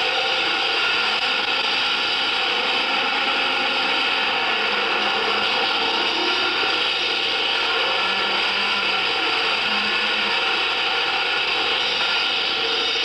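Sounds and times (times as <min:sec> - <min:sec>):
harsh grinding noise music: 0:00.0 - 0:13.0.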